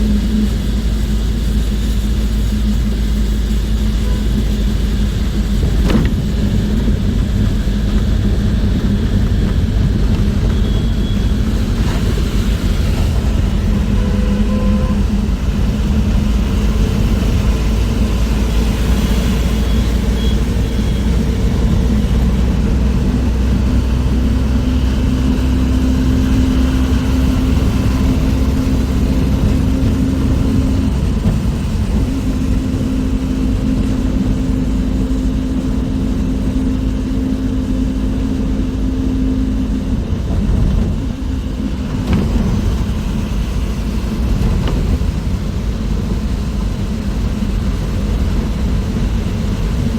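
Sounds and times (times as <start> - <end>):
bus engine drone: 0.0 - 49.9
road rumble: 0.0 - 49.9.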